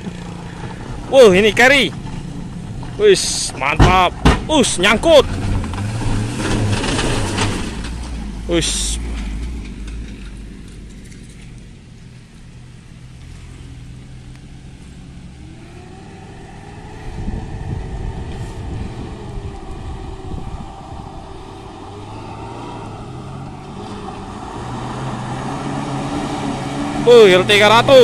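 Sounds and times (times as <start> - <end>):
pickup engine revving uphill: 0.0 - 28.0.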